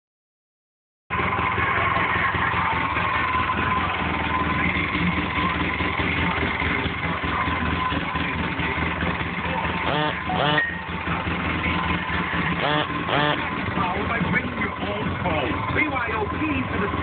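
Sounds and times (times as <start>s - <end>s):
engine idling: 1.1s - 17.0s.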